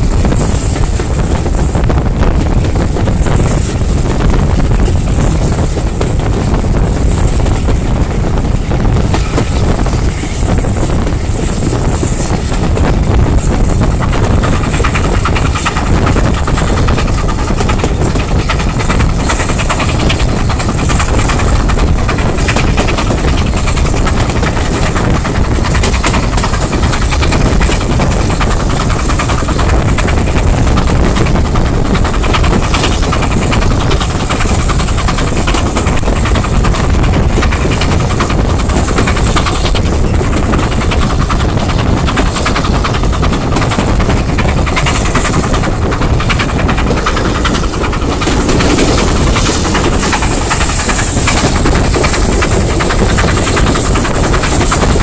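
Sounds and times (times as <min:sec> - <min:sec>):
train wheels rumbling on rails: 0:00.0 - 0:55.0
wind rushing past microphone: 0:00.0 - 0:55.0.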